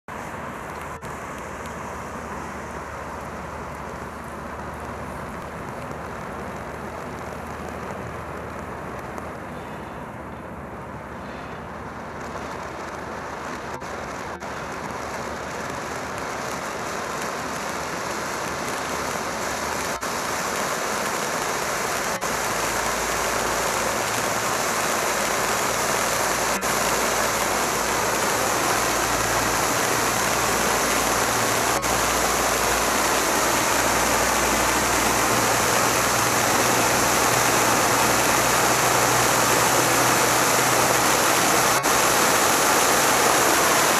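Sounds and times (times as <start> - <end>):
firework fountain hissing sparks: 0.1 - 9.5, 11.2 - 43.9.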